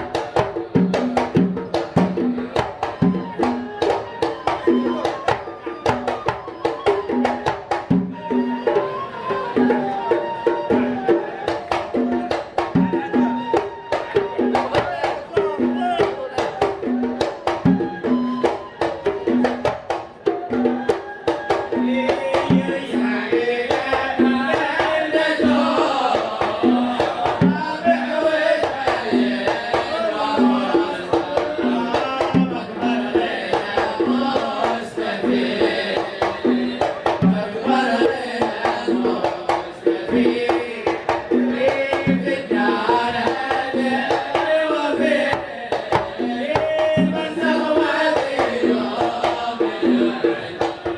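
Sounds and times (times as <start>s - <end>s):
group devotional singing: 0.0s - 6.4s, 8.6s - 18.3s, 20.2s - 50.9s
hand drums beating: 0.0s - 50.9s.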